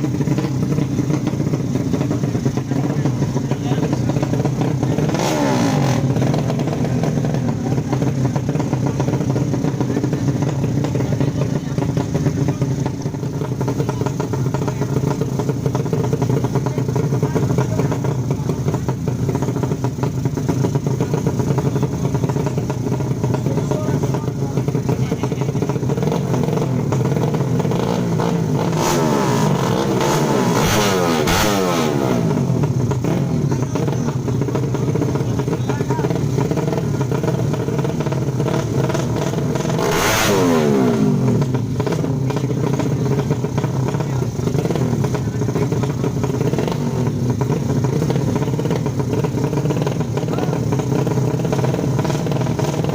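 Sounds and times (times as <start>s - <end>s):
racing motorcycle engines revving: 0.0s - 52.9s.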